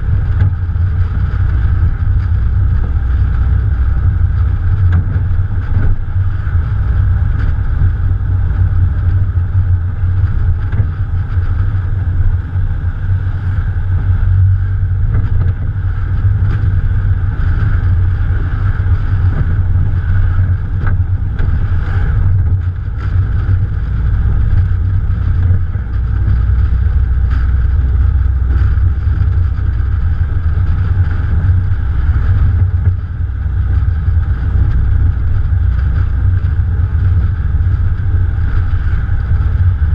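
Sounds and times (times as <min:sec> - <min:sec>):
car engine running: 0:00.0 - 0:39.9
wind buffeting microphone: 0:00.0 - 0:39.9.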